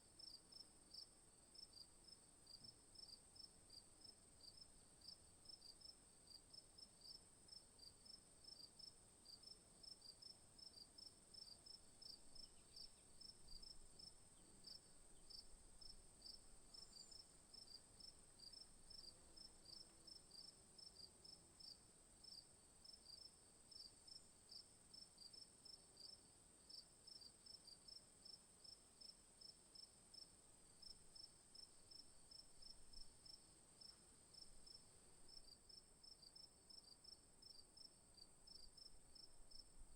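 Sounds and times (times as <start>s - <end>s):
insect chirping: 7.0s - 27.3s, 27.9s - 39.9s.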